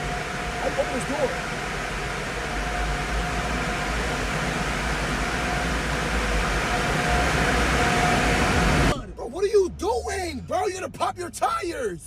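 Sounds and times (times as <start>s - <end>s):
car wash machinery running: 0.0s - 12.0s.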